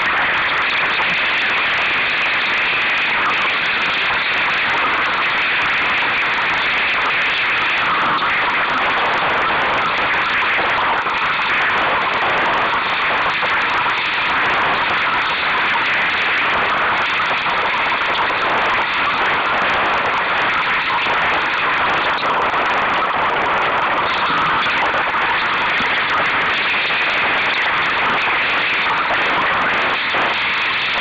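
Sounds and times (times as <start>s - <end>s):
rushing wind and water: 0.0s - 31.0s.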